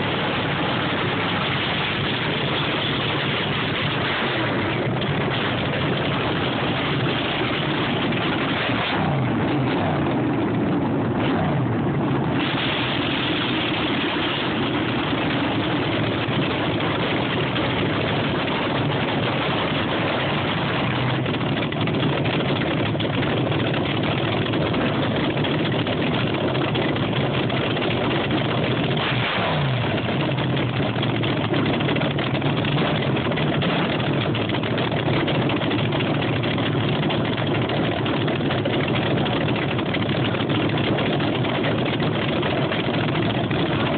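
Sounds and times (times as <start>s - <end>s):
dragster engine cackling idle: 0.0s - 43.9s.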